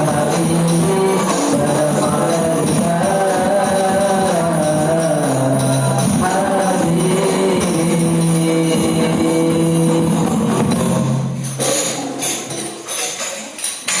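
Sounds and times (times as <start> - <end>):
frame drums with jingles: 0.0 - 14.0.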